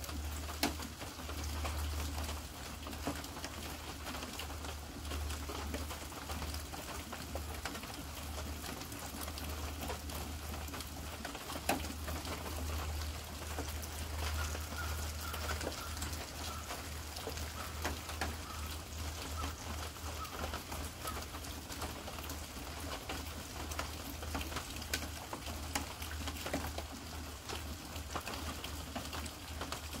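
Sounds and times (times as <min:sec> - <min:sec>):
raindrops pattering on leaves: 0:00.0 - 0:30.0
soft steady rain hiss: 0:00.0 - 0:30.0.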